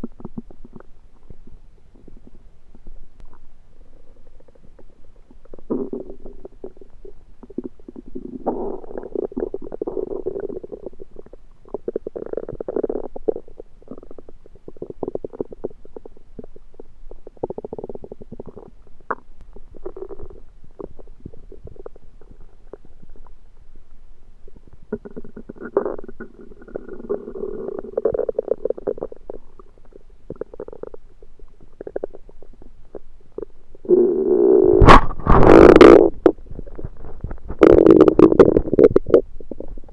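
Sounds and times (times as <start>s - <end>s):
stomach gurgling: 0.0s - 23.6s, 24.4s - 39.9s.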